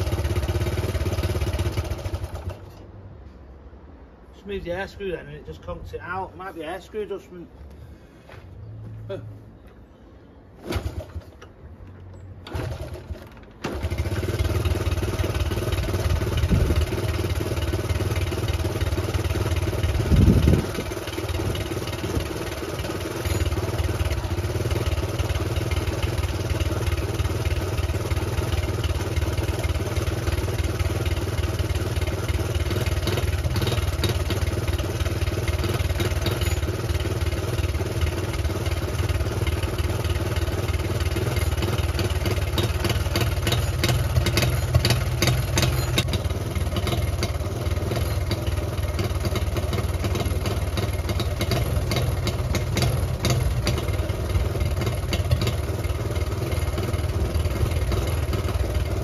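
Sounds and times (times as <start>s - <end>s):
small motorcycle engine idling: 0.0s - 2.8s, 12.1s - 59.0s.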